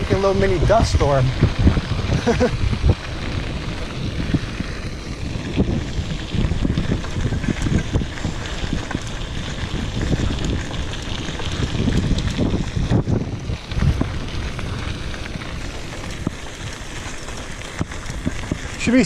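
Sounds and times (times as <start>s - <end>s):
tyres rolling over dirt: 0.0s - 19.0s
wind buffeting microphone: 0.0s - 19.0s.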